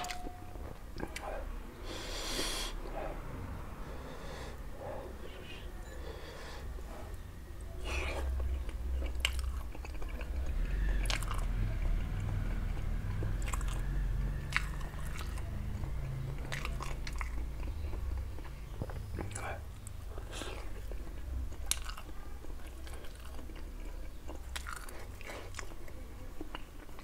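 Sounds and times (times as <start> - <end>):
man chewing: 0.0 - 3.2, 7.8 - 27.0.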